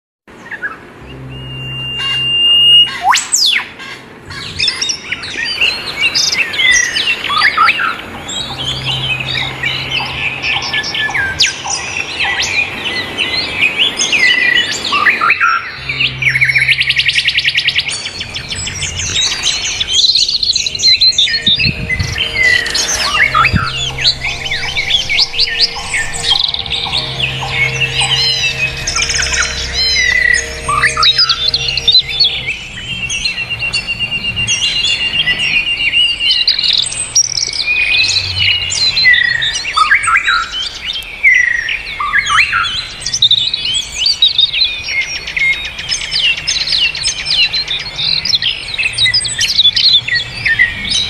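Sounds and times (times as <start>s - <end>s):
songbirds chirping and trilling: 0.3s - 51.0s.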